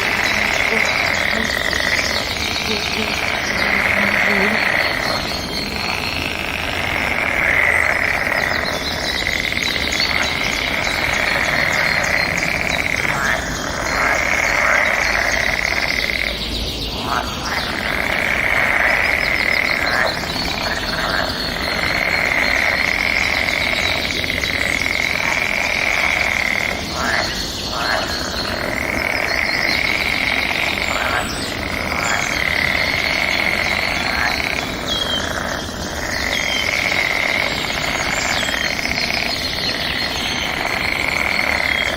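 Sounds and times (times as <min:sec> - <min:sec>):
birds chirping and singing: 0:00.0 - 0:18.2, 0:25.9 - 0:41.9.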